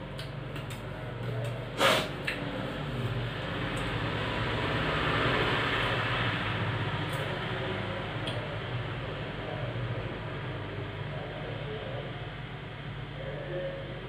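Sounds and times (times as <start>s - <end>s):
mechanical hum and hiss: 0.0s - 4.7s, 5.4s - 14.0s.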